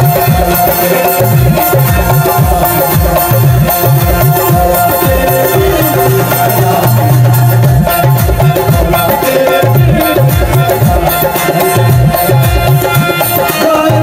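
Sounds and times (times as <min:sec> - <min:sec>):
harmoniums playing chords: 0:00.0 - 0:14.0.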